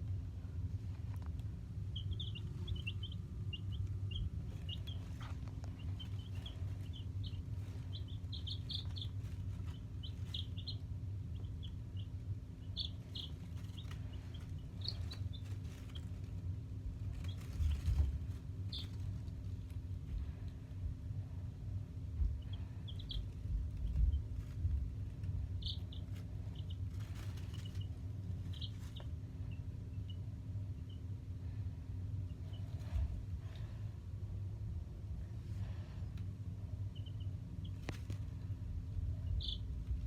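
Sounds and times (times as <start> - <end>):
baby chicks peeping: 0.0 - 40.0
low steady hum: 0.0 - 40.0.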